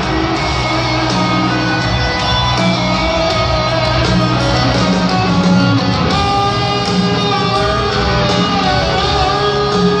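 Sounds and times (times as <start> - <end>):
electric guitar lead: 0.0 - 10.0
rock band playing loud: 0.0 - 10.0.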